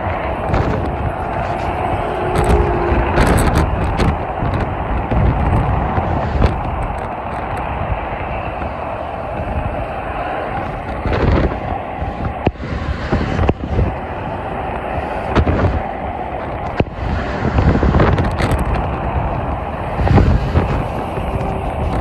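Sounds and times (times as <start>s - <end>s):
heavy highway traffic: 0.0s - 22.0s.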